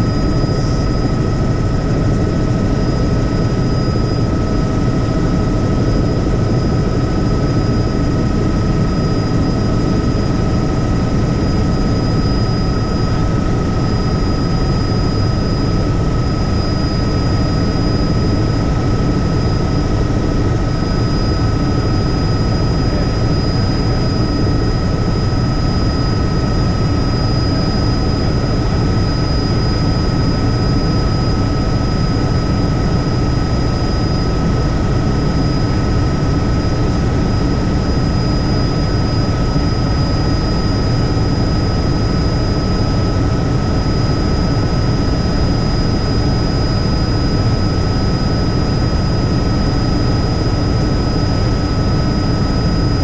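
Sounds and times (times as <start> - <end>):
helicopter engine and rotor: 0.0 - 53.0
high whine: 0.0 - 53.0.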